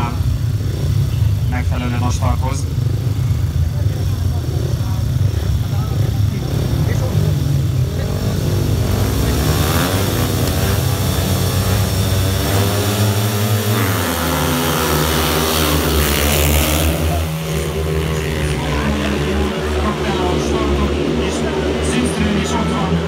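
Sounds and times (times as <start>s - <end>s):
motorcycles racing at high revs: 0.0s - 23.0s.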